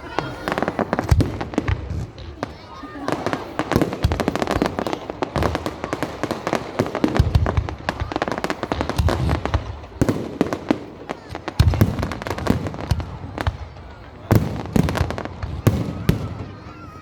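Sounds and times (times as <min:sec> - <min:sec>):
deep fireworks booms: 0:00.0 - 0:17.0
fireworks crackling: 0:00.0 - 0:17.0.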